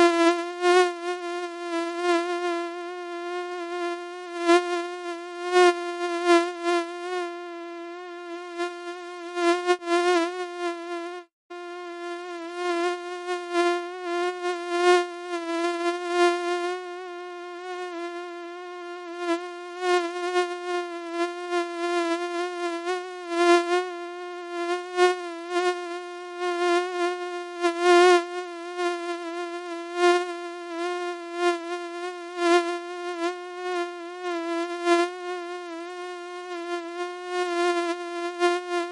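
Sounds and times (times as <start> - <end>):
mosquito whine: 0.0 - 38.9.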